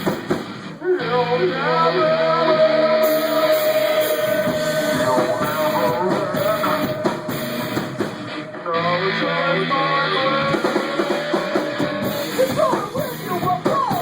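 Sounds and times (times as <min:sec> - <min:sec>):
drum kit: 0:00.0 - 0:01.2, 0:01.8 - 0:14.0
electric guitar: 0:00.0 - 0:14.0.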